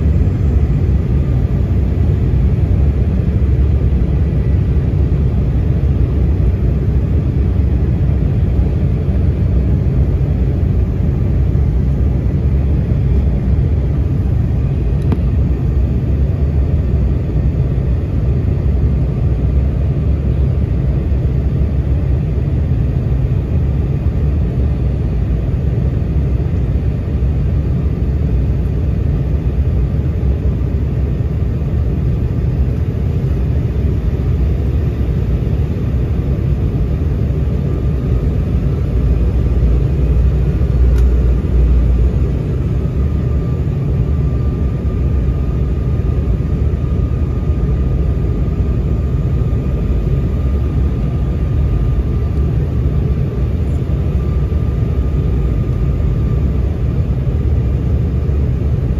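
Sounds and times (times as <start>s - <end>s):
faint steady whine: 0.0s - 58.9s
jet engine rumble: 0.0s - 58.9s.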